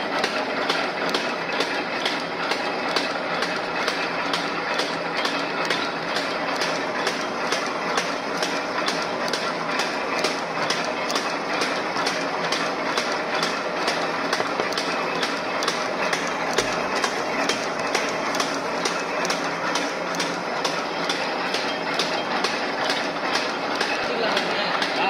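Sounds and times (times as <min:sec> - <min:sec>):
machine running steadily: 0:00.0 - 0:25.0
regular machine clack: 0:00.0 - 0:25.0.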